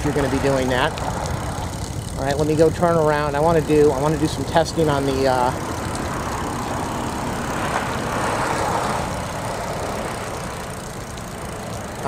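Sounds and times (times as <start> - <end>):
road traffic rumble: 0.0 - 12.0
vehicle passing: 0.0 - 12.0.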